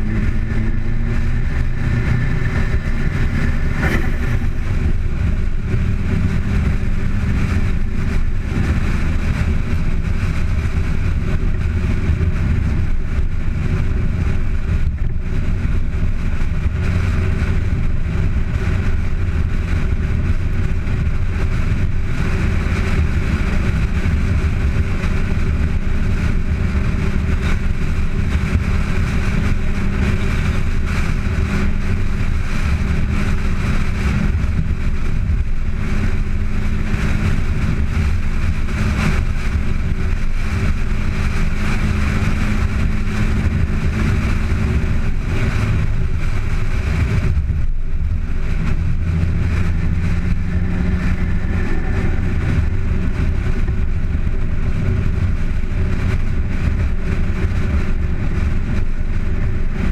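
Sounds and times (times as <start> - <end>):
car engine rumble: 0.0 - 59.9
road and wind noise: 0.0 - 59.9.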